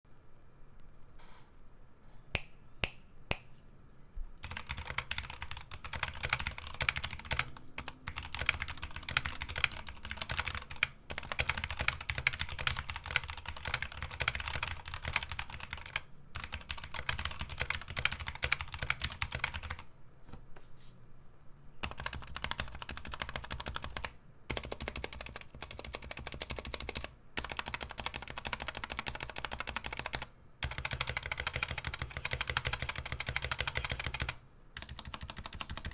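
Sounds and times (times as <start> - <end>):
mechanical keyboard typing: 4.4 - 19.9, 21.8 - 35.9.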